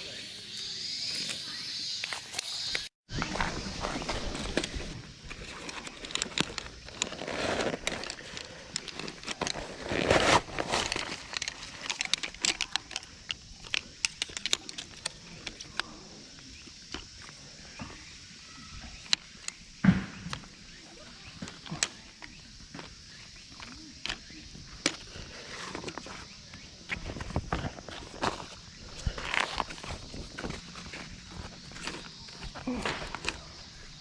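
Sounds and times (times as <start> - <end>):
rustling and crinkling: 3.1 - 34.0.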